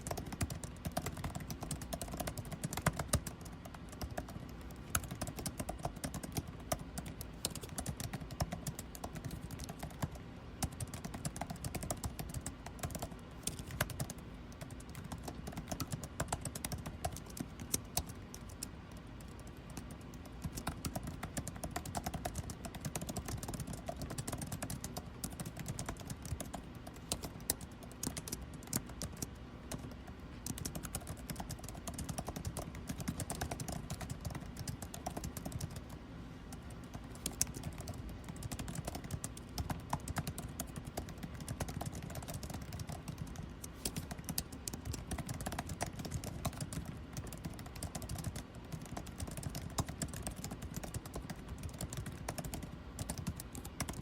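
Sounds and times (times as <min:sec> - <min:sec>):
air conditioning hum: 0:00.0 - 0:54.0
typing on computer keyboard: 0:00.0 - 0:54.0.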